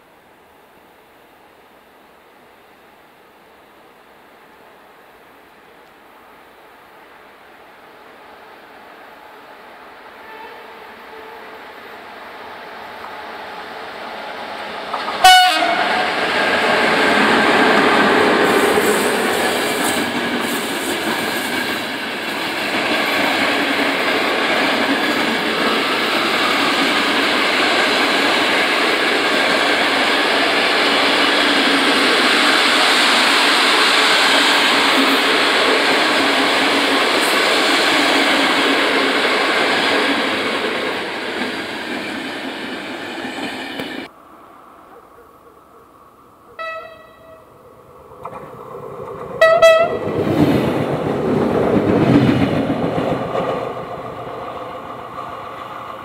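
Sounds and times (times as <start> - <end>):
train wheels rolling on rails: 8.1 - 44.1, 46.6 - 56.0.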